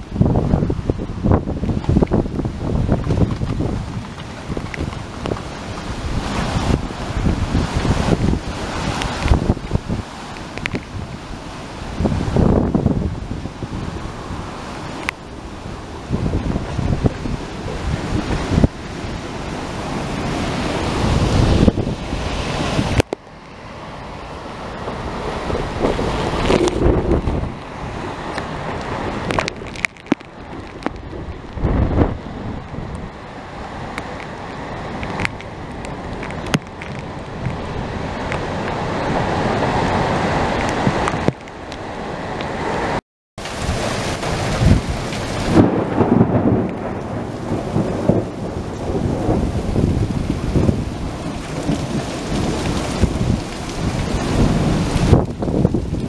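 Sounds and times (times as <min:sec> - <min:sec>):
heavy driving rain: 0:00.0 - 0:56.0
strong gusting wind: 0:00.0 - 0:56.0.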